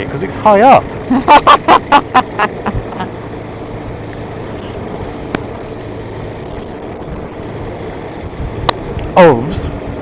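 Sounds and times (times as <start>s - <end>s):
motorcycle road and wind noise: 0.0s - 10.0s.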